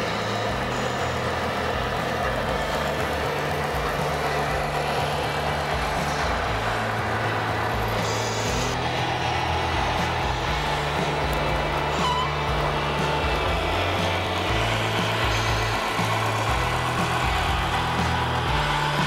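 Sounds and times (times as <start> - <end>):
simulated diesel truck engine: 0.0 - 19.0.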